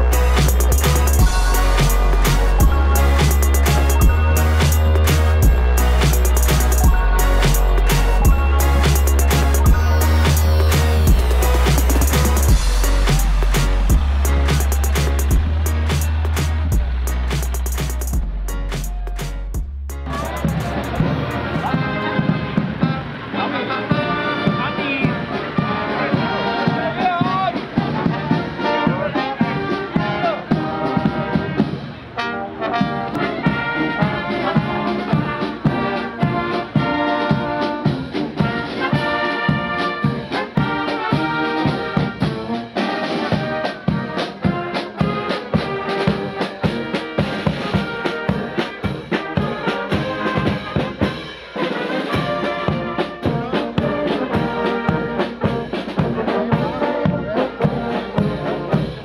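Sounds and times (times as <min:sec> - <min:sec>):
brass band playing a march: 0:00.0 - 0:19.2, 0:20.0 - 0:59.0
steady drum beat: 0:00.0 - 0:23.0, 0:34.6 - 0:59.0.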